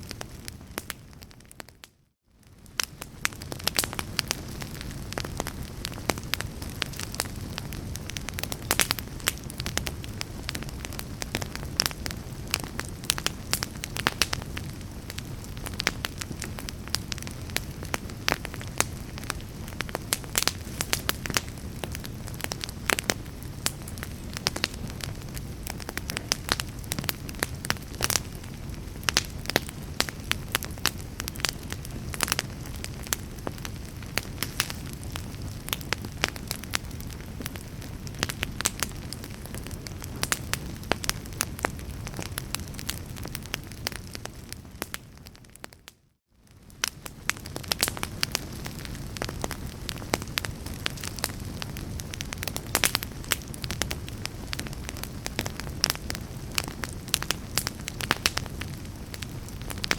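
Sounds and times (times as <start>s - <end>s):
low roar of flames: 0.0s - 45.8s, 46.4s - 59.9s
fire crackling and popping: 0.0s - 59.9s.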